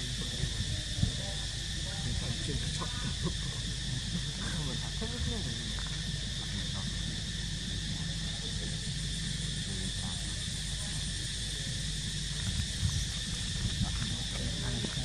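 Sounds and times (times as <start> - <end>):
insects buzzing drone: 0.0 - 15.0
low steady rumble: 0.0 - 15.0.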